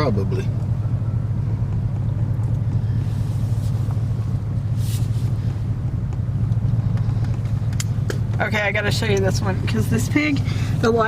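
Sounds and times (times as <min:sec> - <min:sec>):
car driving slowly from inside: 0:00.0 - 0:11.0.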